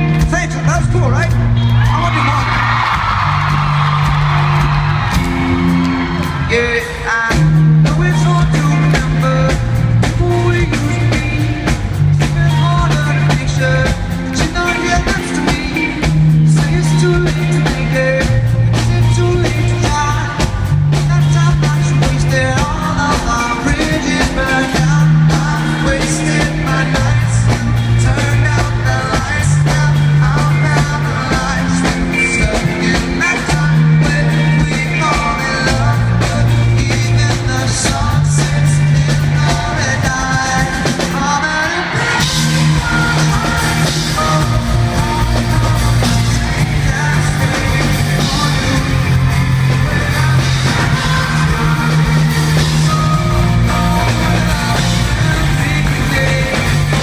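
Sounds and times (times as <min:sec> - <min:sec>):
live rock band: 0:00.0 - 0:57.0
man singing into microphone: 0:06.4 - 0:57.0.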